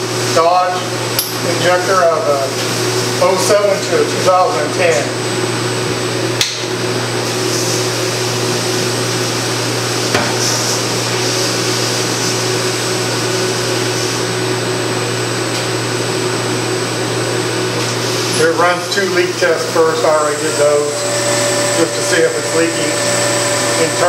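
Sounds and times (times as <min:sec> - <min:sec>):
injector test bench humming: 0:00.0 - 0:24.0.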